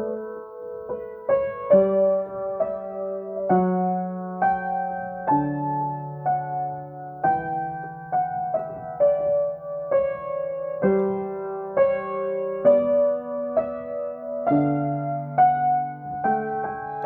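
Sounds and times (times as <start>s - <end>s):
acoustic piano improvising: 0.0s - 17.0s.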